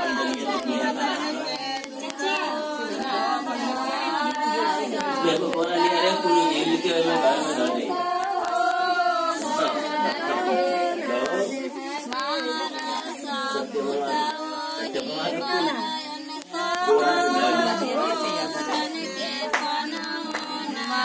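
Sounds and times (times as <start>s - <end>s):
women singing together: 0.0s - 21.0s.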